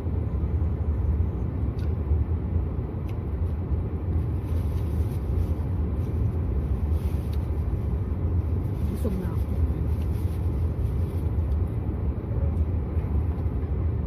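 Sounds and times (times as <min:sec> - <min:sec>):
car cabin rumble: 0:01.0 - 0:14.0.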